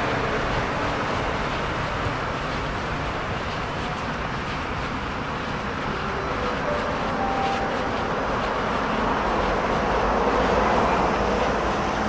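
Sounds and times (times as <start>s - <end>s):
electric train running: 0.0s - 12.0s.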